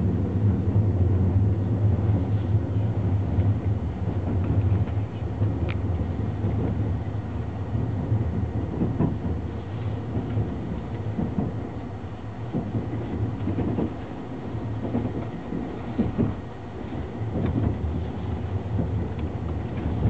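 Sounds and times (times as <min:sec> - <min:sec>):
train running low rumble: 0:00.0 - 0:20.0.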